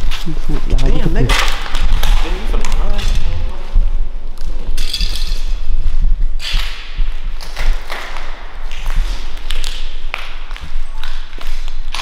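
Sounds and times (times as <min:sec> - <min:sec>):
footsteps on debris-strewn floor: 0:00.0 - 0:12.0.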